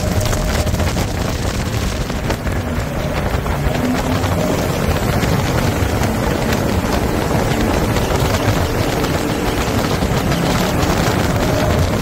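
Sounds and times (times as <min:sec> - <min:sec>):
boat engine and water jet: 0:00.0 - 0:12.0
wind buffeting microphone: 0:00.0 - 0:12.0.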